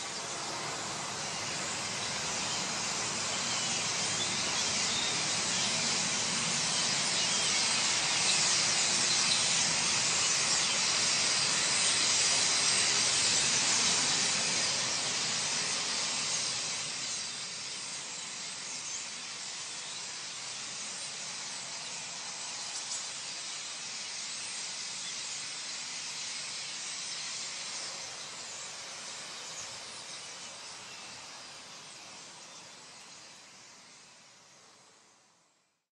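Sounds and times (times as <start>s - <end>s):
starling flock calls and wingbeats: 0.1s - 32.0s.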